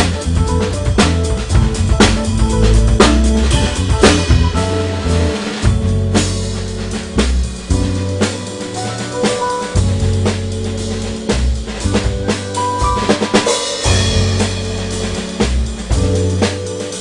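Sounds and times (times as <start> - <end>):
bass guitar notes: 0.0 - 16.8
busy drumming: 0.0 - 17.0
electric guitar chords: 0.0 - 17.0.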